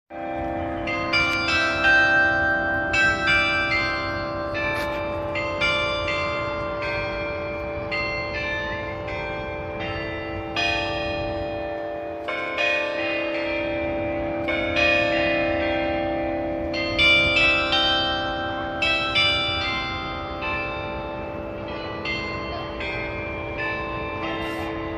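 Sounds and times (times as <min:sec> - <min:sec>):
low hum of large bells: 0:00.1 - 0:24.9
carillon bells playing a tune: 0:00.2 - 0:24.9.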